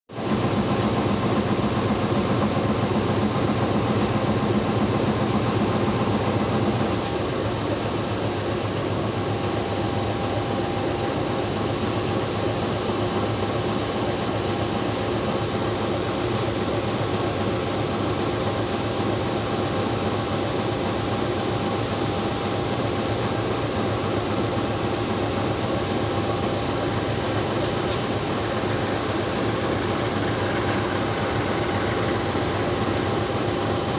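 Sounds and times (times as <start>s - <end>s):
train carriage rumble and hiss: 0.1s - 33.9s
air conditioning hum: 0.2s - 33.9s.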